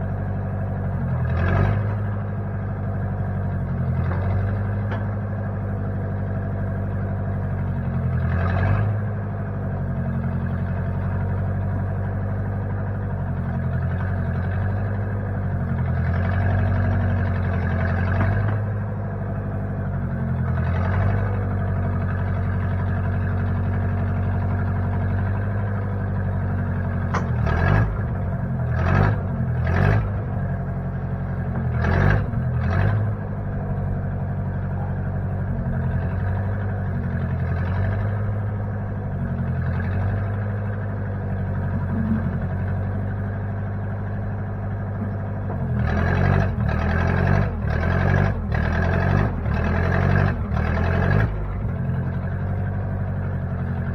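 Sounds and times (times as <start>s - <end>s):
backhoe engine running: 0.0s - 53.9s.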